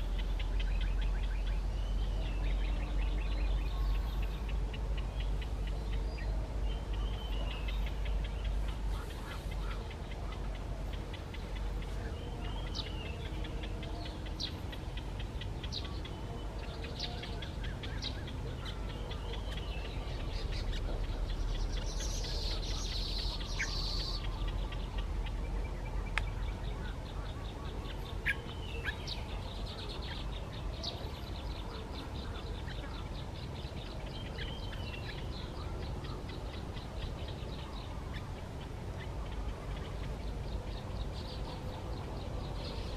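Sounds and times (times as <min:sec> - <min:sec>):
birds chirping and calling: 0:00.0 - 0:42.9
rapid ticking bird calls: 0:00.0 - 0:42.9.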